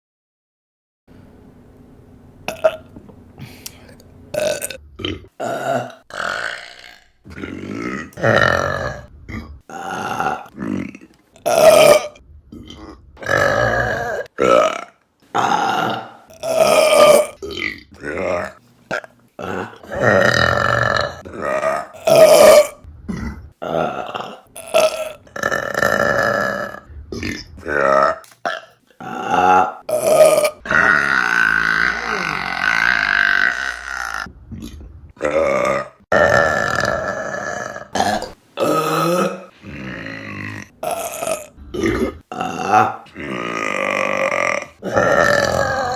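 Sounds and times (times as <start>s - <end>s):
women belching: 4.4s - 45.9s.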